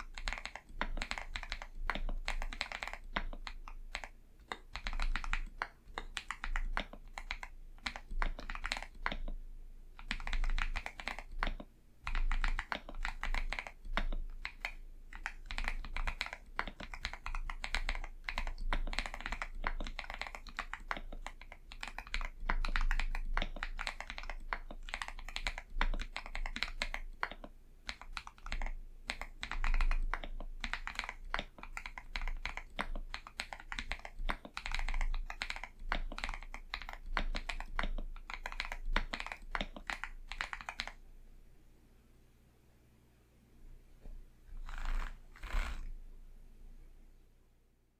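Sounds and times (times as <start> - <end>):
fast typing on mechanical keyboard: 0.0 - 9.4, 10.0 - 41.0, 44.6 - 45.8.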